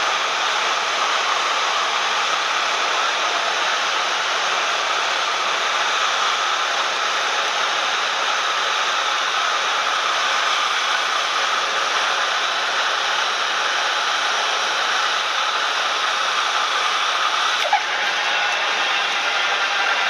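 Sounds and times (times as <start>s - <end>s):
aircraft cabin engine hiss: 0.0s - 20.0s.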